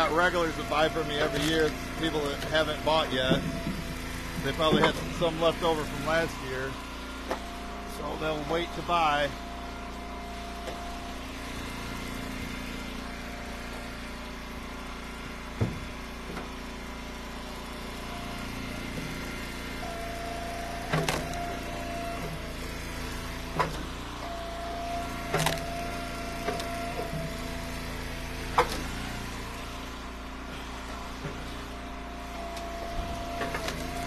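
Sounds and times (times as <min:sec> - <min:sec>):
log splitter running: 0:00.0 - 0:34.0.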